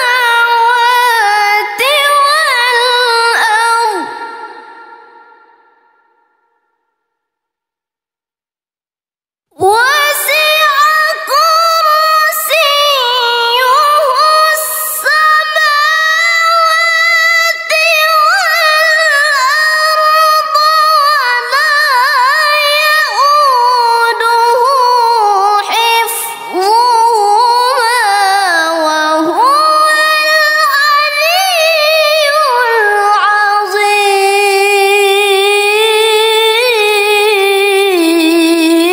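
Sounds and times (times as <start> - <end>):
girl reciting melodically: 0.0 - 5.0, 9.6 - 38.9.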